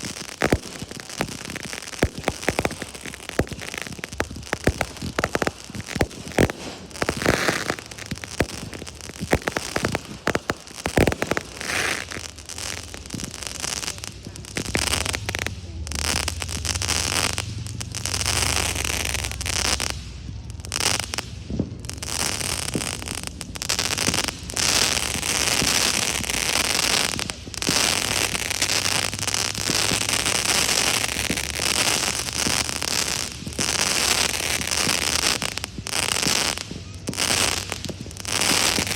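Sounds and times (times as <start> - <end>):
firework bangs: 0.0 - 38.9
fireworks crackling: 0.0 - 38.9.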